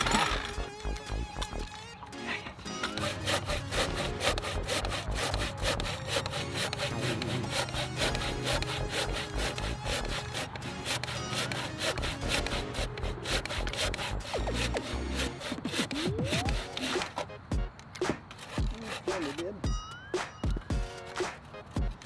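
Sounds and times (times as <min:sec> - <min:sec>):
hand saw cutting wood: 0:00.0 - 0:19.7, 0:20.7 - 0:22.0.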